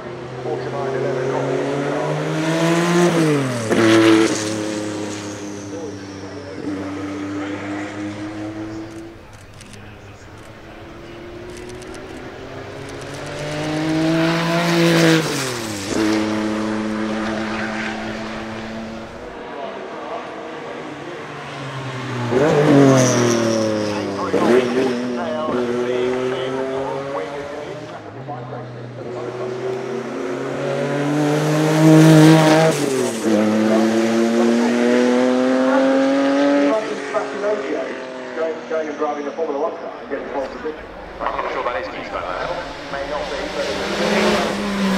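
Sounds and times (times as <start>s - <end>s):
race car passing by: 0.0s - 44.9s.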